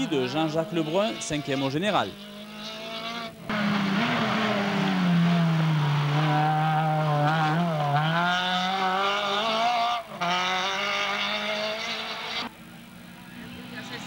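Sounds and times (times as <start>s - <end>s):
rally car engine high revs: 0.0s - 12.5s.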